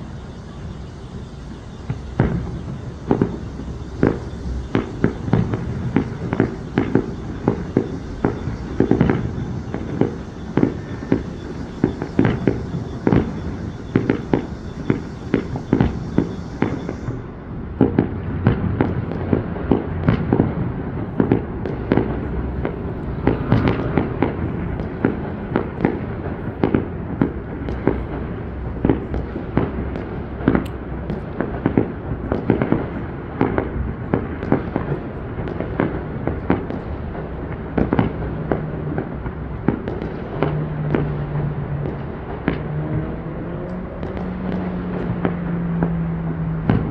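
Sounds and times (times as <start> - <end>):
continuous low rumble: 0.0 - 46.9
fireworks bursting with sharp bangs: 0.0 - 46.9.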